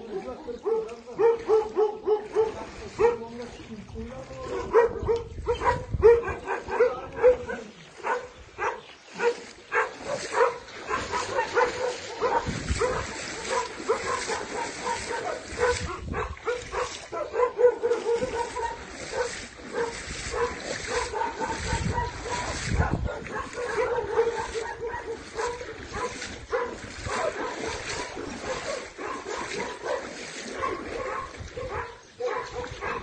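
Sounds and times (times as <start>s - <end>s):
dog barking and yelping: 0.7s - 3.2s, 4.5s - 33.0s.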